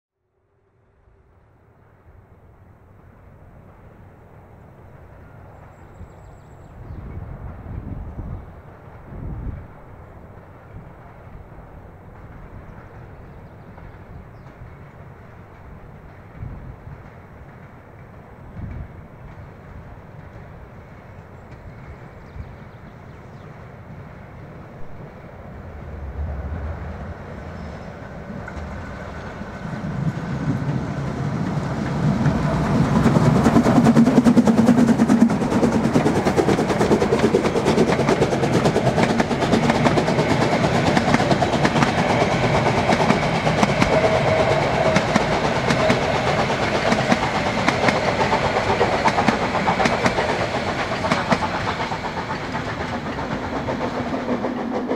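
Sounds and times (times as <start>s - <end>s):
steam locomotive exhaust beats: 7.1s - 54.9s.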